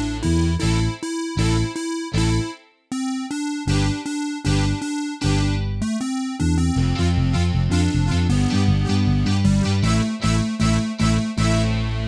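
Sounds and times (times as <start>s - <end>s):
bass line: 0.0s - 2.5s, 3.6s - 12.0s
sustained keyboard chords: 0.0s - 12.0s.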